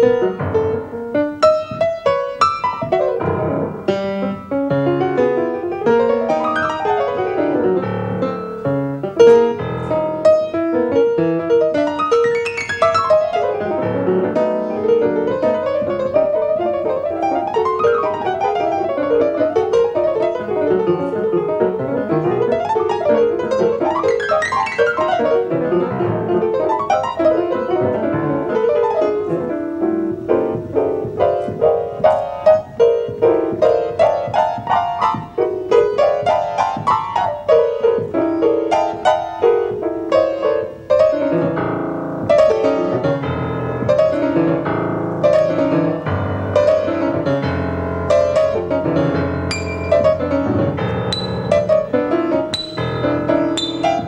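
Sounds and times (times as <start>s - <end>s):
jazz piano improvisation: 0.0s - 54.0s.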